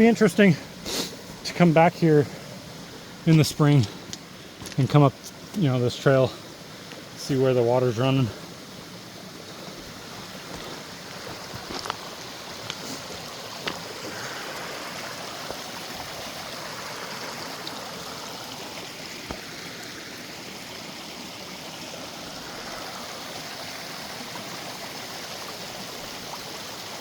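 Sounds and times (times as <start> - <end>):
creek rushing: 0.0 - 27.0.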